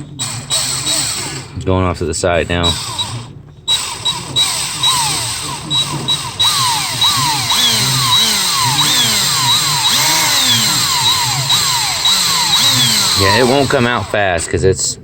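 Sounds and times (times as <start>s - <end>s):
power drill boring into bolt: 0.2s - 1.5s, 2.6s - 14.4s.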